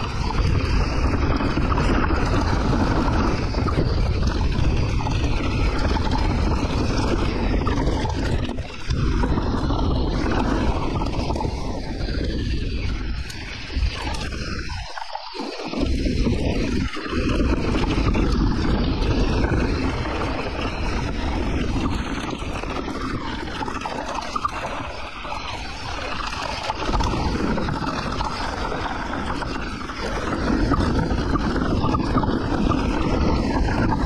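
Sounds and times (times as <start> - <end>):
bike tyres rattling over ground: 0.0 - 34.0
wind on microphone: 0.0 - 34.0.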